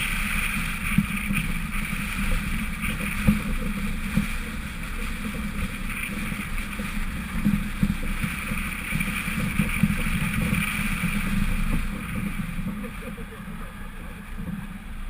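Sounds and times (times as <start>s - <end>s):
car engine running: 0.0s - 15.0s
tyres running off-road: 0.0s - 15.0s
wind on microphone: 0.0s - 15.0s.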